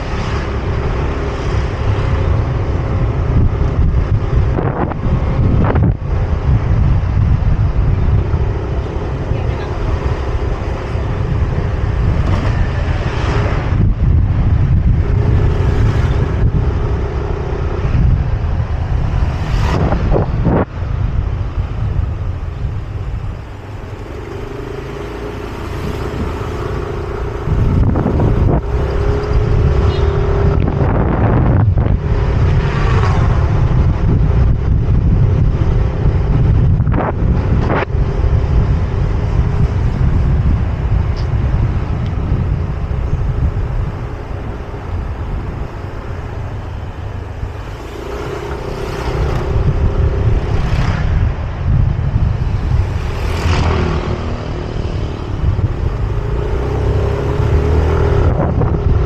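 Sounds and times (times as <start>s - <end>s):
scooter engine drone: 0.0s - 59.0s
vehicles passing: 0.0s - 59.0s
wind rush on microphone: 0.0s - 59.0s.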